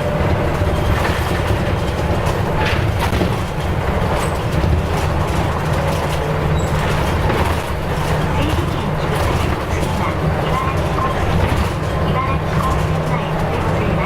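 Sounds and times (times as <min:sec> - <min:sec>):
bus diesel engine drone: 0:00.0 - 0:14.0
road noise: 0:00.0 - 0:14.0.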